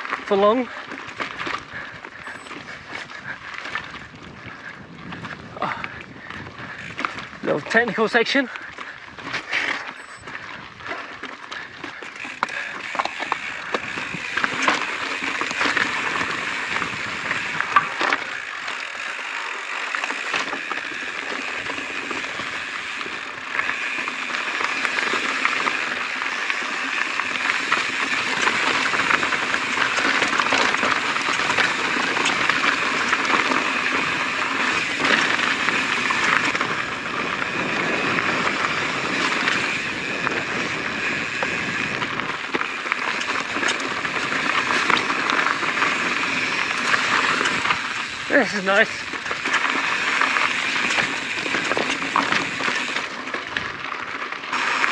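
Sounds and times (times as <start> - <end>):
clicks and knocks from bike: 0.0 - 7.4, 8.6 - 54.9
bike tyres rolling on stone: 0.0 - 54.9.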